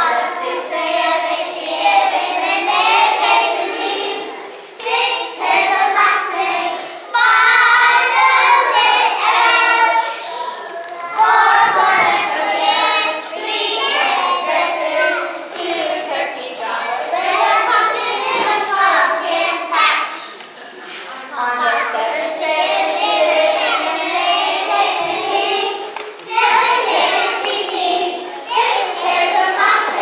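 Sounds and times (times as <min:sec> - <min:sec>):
children singing together: 0:00.0 - 0:20.6, 0:21.3 - 0:30.0.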